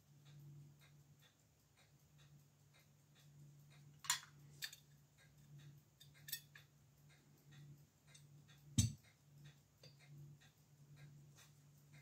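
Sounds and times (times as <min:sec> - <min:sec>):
pocket watch ticking: 0:00.0 - 0:12.0
sharp metallic clicks: 0:00.1 - 0:12.0.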